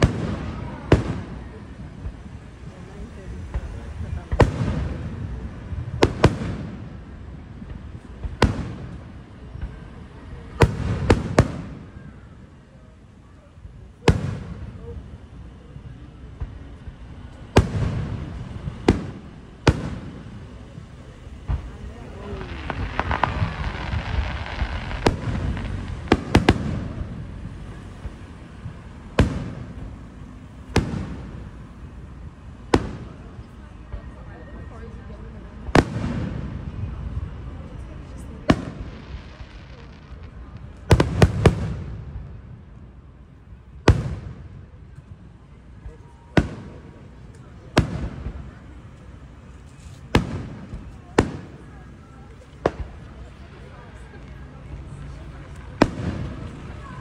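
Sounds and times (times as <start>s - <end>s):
fireworks bursting with echoes: 0.0s - 57.0s.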